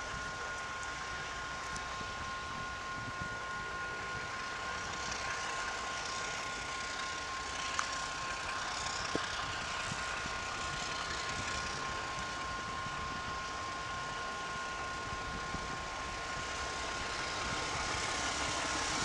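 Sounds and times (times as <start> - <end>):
two-note high whine: 0.0 - 19.0.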